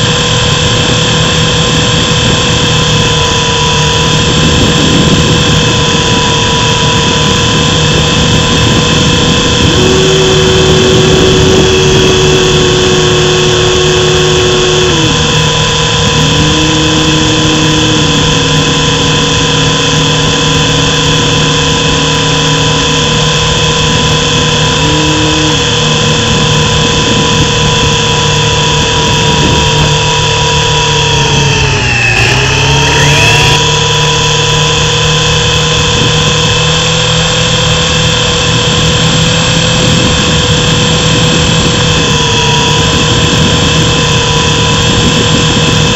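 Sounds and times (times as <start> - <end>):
rc helicopter rotors whining: 0.0 - 45.9.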